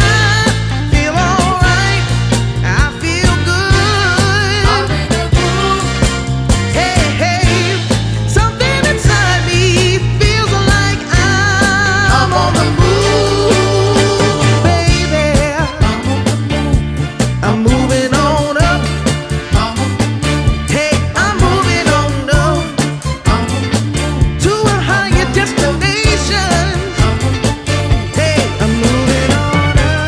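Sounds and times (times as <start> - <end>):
music with beat and bass: 0.0 - 30.0
person singing: 0.0 - 30.0.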